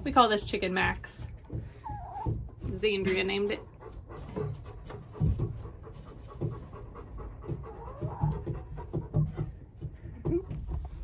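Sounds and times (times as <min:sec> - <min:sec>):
dog panting: 0:01.6 - 0:11.0.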